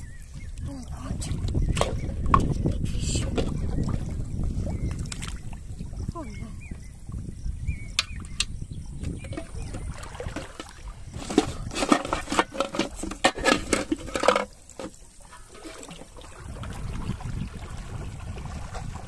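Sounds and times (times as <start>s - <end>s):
water splashing: 0.0s - 6.7s, 9.2s - 19.0s
low rumble of water: 0.0s - 19.0s.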